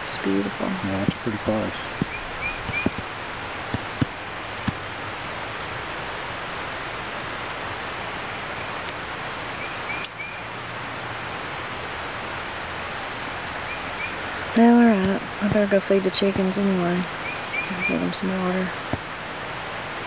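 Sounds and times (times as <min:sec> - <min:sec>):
rushing background noise: 0:00.0 - 0:20.0.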